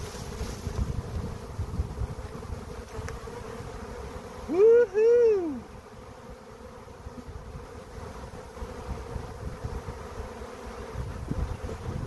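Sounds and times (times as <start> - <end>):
bee swarm buzzing: 0.0 - 12.0
loud bee buzz rising and falling: 0.0 - 12.0.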